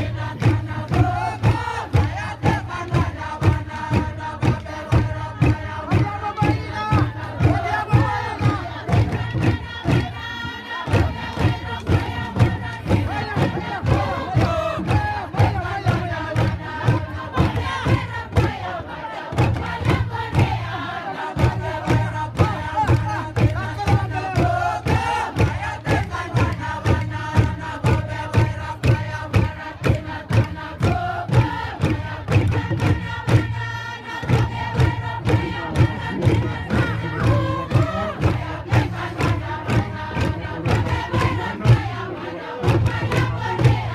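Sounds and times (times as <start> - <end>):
group chanting and singing: 0.0 - 43.9
percussive beat: 0.0 - 43.9.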